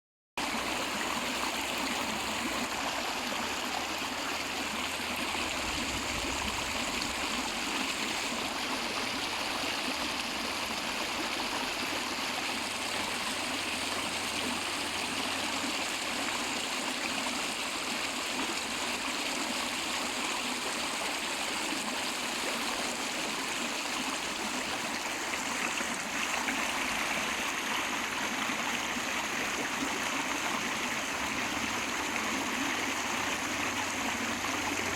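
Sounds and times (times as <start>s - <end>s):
river water flowing: 0.4s - 34.9s.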